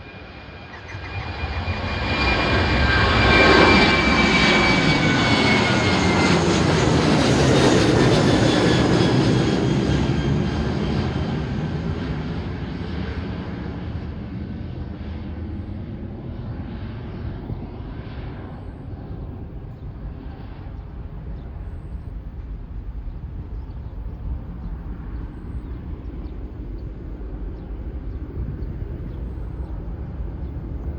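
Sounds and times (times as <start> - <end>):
jet engines rumbling: 0.0 - 30.9.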